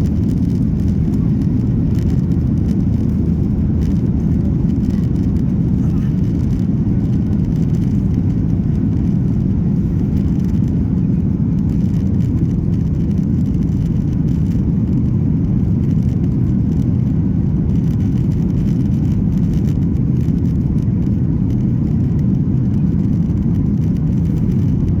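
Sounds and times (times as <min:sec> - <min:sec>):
airplane cabin engine noise: 0:00.0 - 0:25.0.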